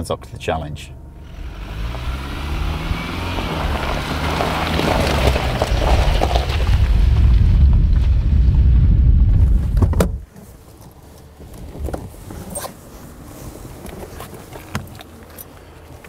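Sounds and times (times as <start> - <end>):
vehicle rumbling: 0.0 - 16.0.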